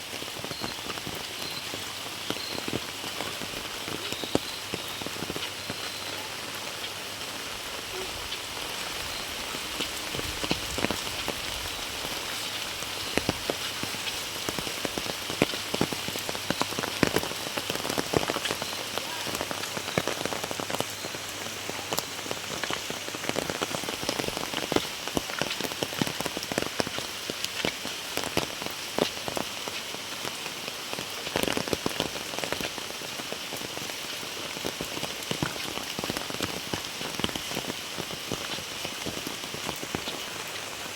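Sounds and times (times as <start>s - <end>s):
close raindrops striking: 0.0s - 40.9s
heavy rain: 0.0s - 40.9s.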